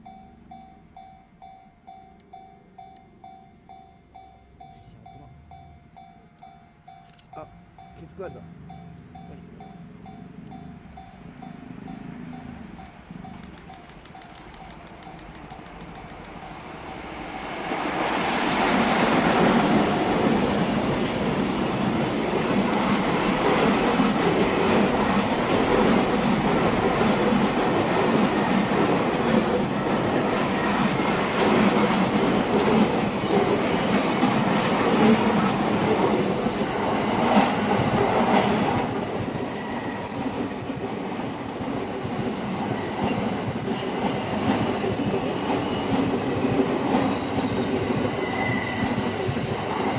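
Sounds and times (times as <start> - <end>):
train passing on rails: 0.0 - 49.9.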